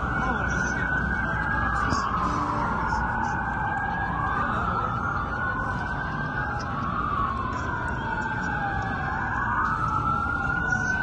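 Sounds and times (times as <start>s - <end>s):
emergency sirens wailing: 0.0s - 11.0s.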